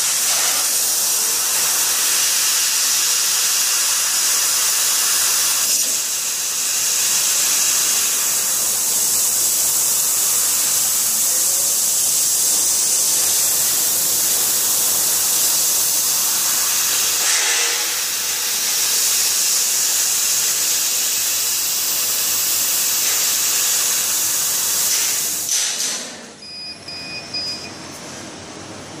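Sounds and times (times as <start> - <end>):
hiss of assist gas: 0.0 - 26.2.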